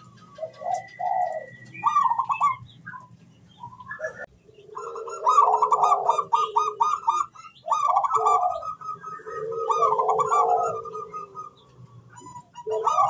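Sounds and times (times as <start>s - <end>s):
dove cooing: 0.0s - 3.0s, 3.6s - 13.0s.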